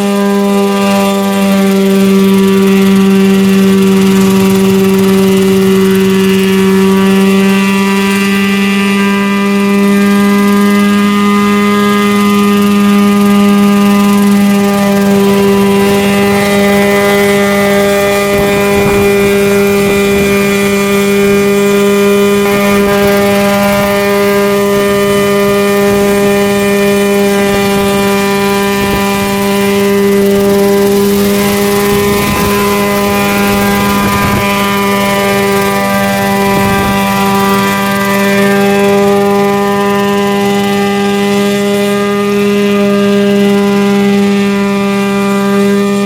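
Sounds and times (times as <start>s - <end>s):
model helicopter drone: 0.0s - 46.0s.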